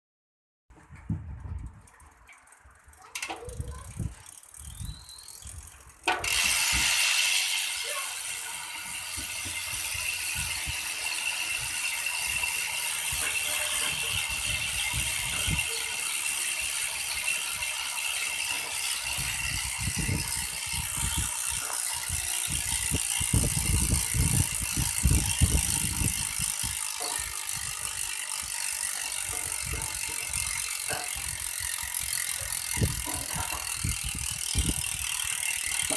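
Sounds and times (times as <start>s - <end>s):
bicycle hub ratchet buzzing: 1.0s - 35.9s.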